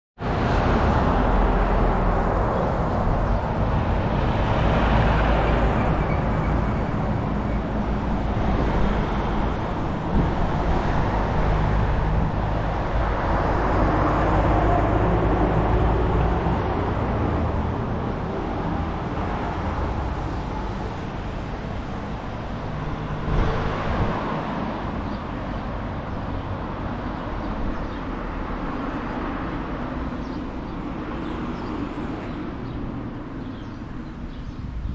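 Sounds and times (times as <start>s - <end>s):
cars passing on road: 0.2s - 34.9s.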